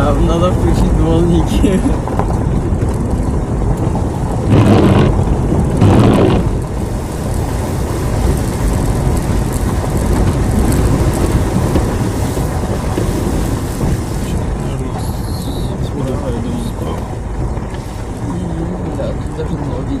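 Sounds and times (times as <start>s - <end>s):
off-road vehicle driving: 0.0s - 20.0s
rushes of noise: 0.0s - 20.0s.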